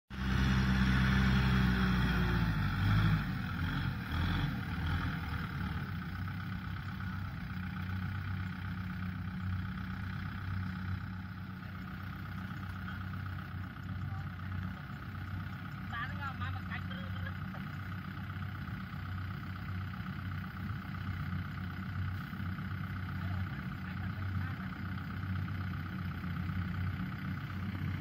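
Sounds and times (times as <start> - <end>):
tractor diesel engine running: 0.1 - 28.0.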